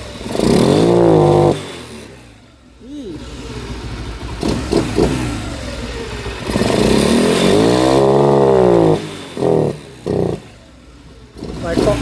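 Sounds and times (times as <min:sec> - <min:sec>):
motorcycle engine revving and misfiring: 0:00.0 - 0:12.0.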